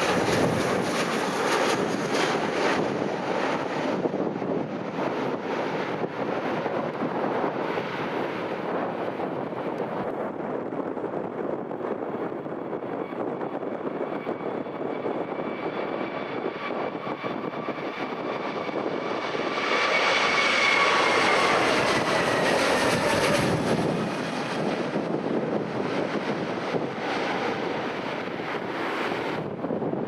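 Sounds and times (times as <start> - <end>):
airliner passing close by: 0.0 - 30.0.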